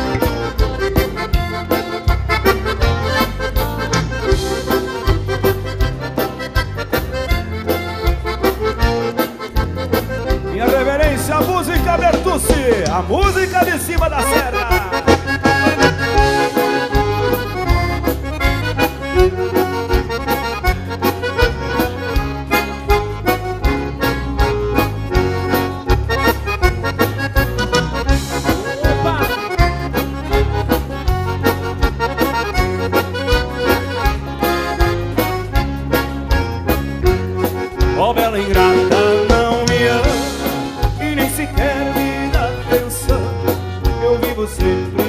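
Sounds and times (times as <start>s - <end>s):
accordion melody: 0.0s - 45.0s
bass and drum beat: 0.0s - 45.0s.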